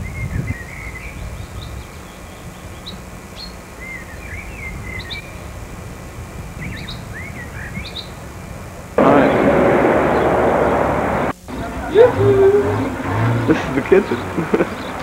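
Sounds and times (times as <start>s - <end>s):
small birds chirping: 0.0s - 15.0s
low outdoor rumble: 1.0s - 15.0s.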